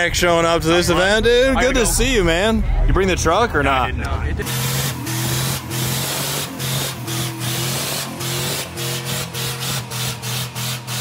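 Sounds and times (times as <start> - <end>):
truck engine at high revs: 0.0 - 11.0
spinning tyres hissing: 0.1 - 11.0.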